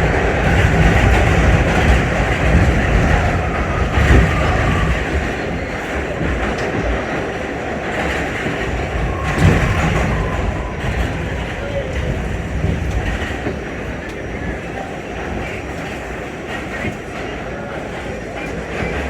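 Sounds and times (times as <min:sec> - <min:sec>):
subway car rumble: 0:00.0 - 0:19.0.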